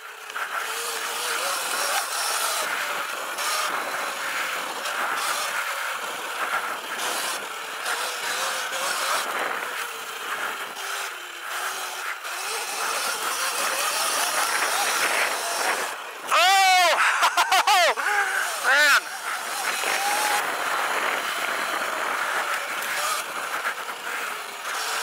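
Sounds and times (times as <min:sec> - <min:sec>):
electric motor whine: 0:00.0 - 0:25.0
steady rushing ride noise: 0:00.0 - 0:25.0.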